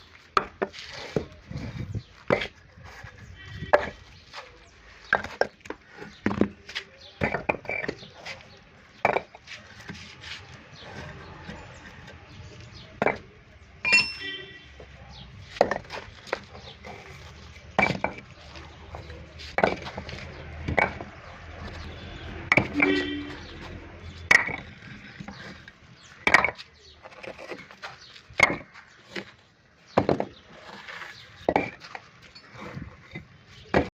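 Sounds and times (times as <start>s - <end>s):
concrete blocks knocking and clinking: 0.2s - 33.9s.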